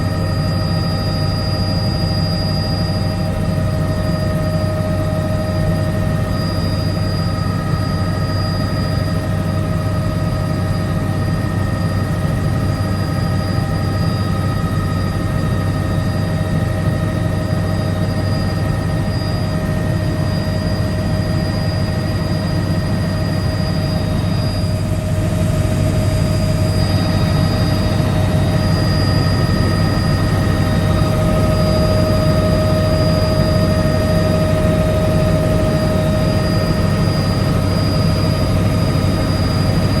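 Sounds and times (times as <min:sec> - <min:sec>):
helicopter rotor drone: 0:00.0 - 0:40.0
helicopter whining tones: 0:00.0 - 0:40.0.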